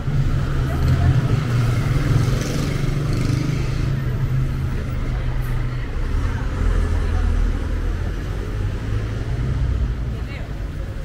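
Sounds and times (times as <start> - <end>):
street noise: 0.0 - 11.0
vehicle engine rumbling: 0.0 - 11.0.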